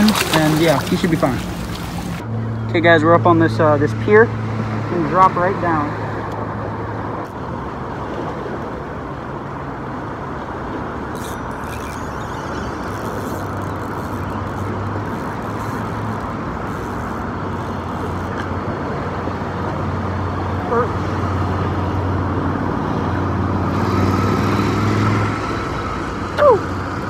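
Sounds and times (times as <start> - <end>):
road traffic noise: 0.0 - 27.0
vehicle engine hum: 0.0 - 27.0.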